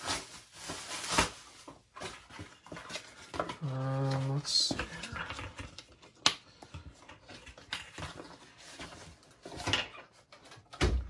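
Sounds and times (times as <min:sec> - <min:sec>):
rustling scrape of packaging: 0:00.0 - 0:05.9, 0:07.0 - 0:10.7.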